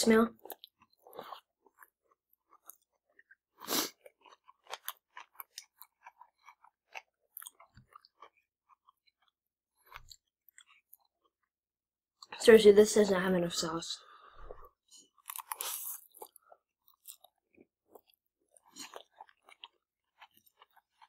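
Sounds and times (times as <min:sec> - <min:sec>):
chewing and mouth noises: 0:00.3 - 0:11.6, 0:14.8 - 0:21.0.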